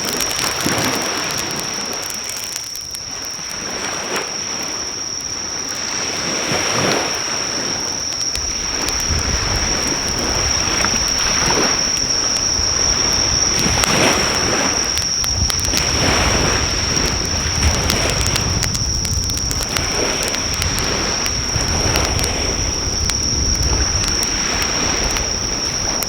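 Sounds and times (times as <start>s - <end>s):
campfire crackles: 0.0s - 26.0s
high-pitched insect drone: 0.0s - 26.0s
sea waves washing onto shore: 0.0s - 26.0s
wind rumble on microphone: 0.0s - 26.0s.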